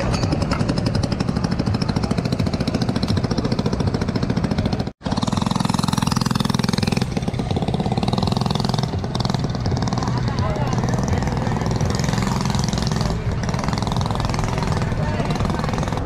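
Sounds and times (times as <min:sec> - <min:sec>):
small go-kart engine running: 0:00.0 - 0:16.0.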